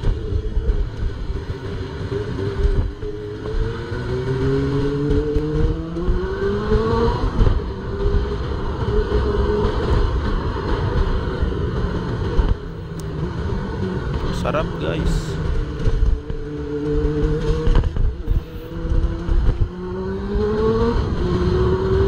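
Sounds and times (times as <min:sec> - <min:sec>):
motorcycle engine accelerating: 0:00.0 - 0:22.0
wind and road noise: 0:00.0 - 0:22.0.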